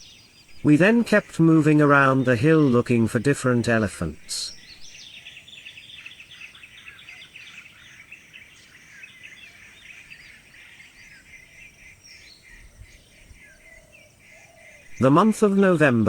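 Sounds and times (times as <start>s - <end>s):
birds chirping: 0.0s - 16.0s
faint background hiss: 0.0s - 16.0s.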